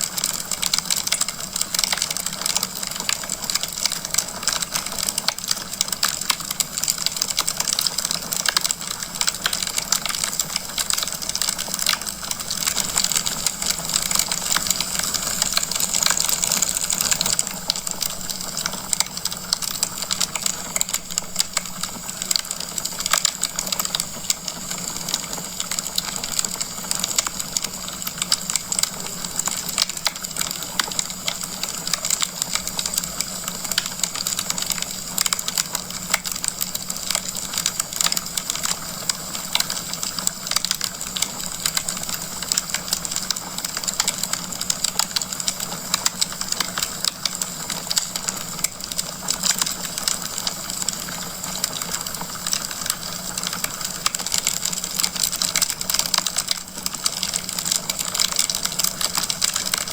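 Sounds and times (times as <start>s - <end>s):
wood logs crackling in fireplace: 0.0s - 59.9s.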